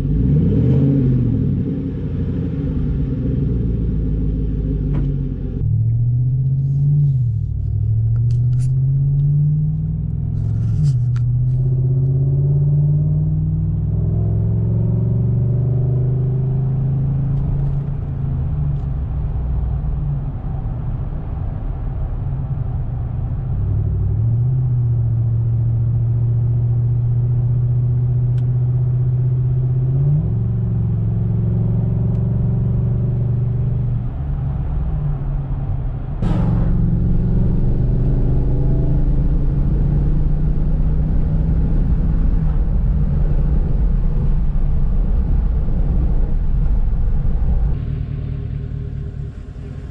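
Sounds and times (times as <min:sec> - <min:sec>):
truck engine accelerating: 0:00.0 - 0:49.9.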